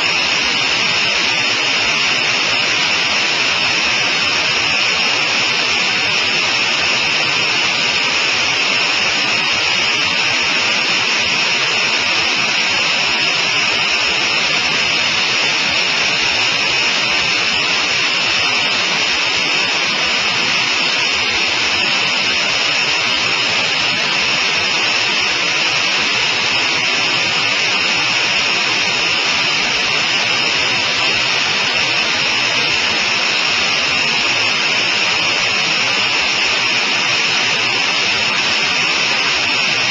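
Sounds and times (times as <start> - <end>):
aircraft cockpit engine noise: 0.0 - 39.9.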